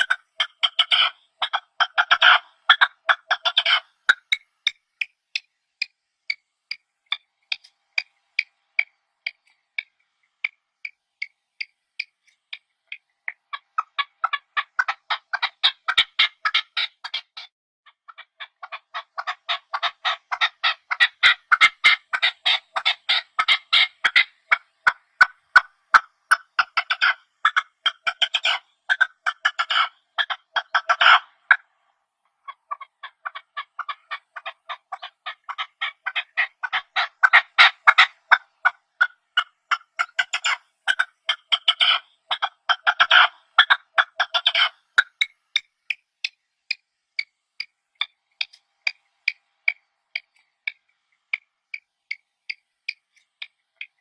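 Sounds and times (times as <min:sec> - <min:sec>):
partridge calling: 0:00.0 - 0:54.0.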